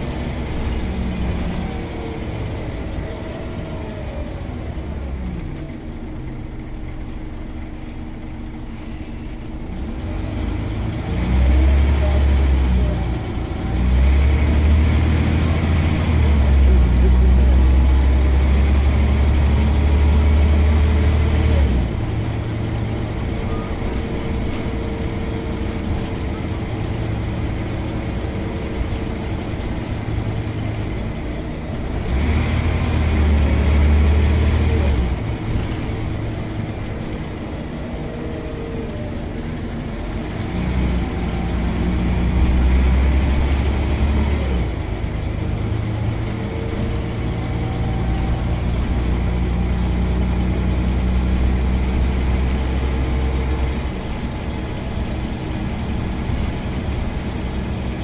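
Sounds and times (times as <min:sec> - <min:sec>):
bus diesel engine accelerating: 0:00.0 - 0:58.0.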